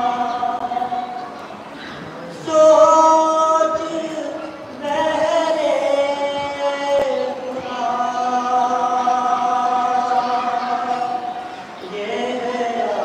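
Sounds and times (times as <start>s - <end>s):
man chanting into a microphone: 2.3s - 13.0s.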